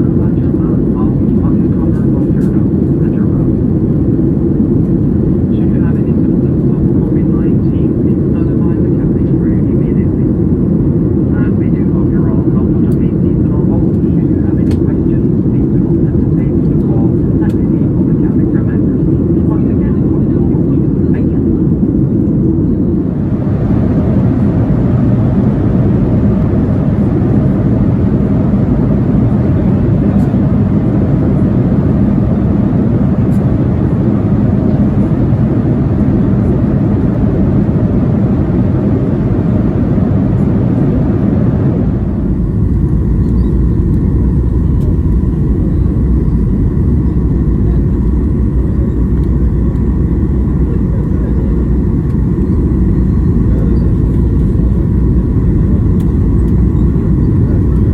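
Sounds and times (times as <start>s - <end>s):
jet cabin engine rumble: 0.0s - 57.9s.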